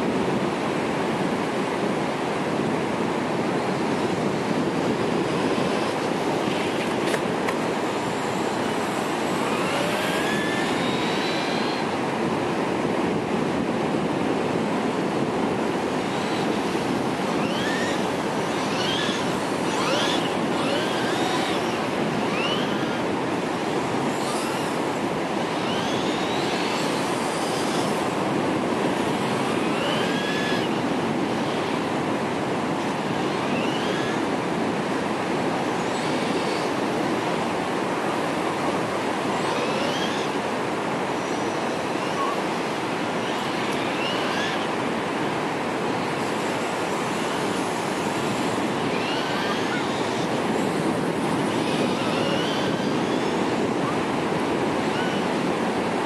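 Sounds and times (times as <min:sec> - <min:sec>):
electric motor whining: 0:03.4 - 0:56.0.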